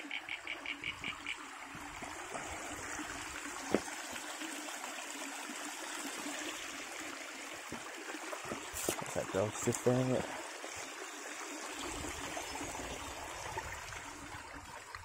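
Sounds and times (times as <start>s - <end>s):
creek water trickling over rocks: 0.0s - 15.0s.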